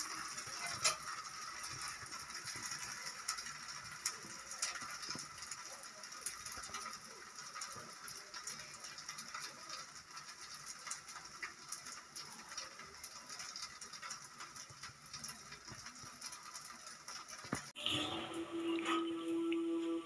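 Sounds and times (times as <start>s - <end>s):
batter sizzling in oil: 0.0s - 20.0s.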